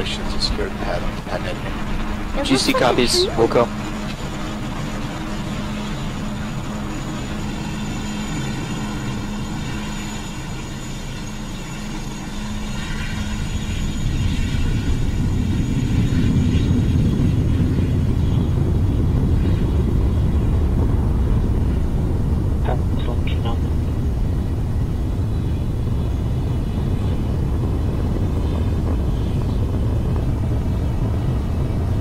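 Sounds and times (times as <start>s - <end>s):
distant aircraft droning: 0.0s - 32.0s.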